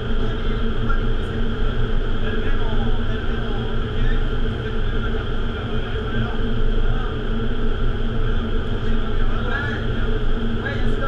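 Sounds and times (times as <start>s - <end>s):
fan hum: 0.0s - 11.0s
rush of air in wind tunnel: 0.0s - 11.0s.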